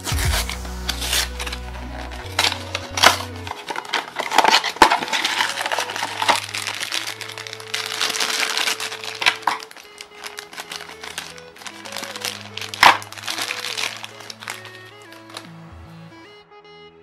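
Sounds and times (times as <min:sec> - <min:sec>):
cardboard box tearing: 0:00.0 - 0:15.5
foil bag crinkling: 0:00.0 - 0:15.5
soft background music: 0:00.0 - 0:17.0.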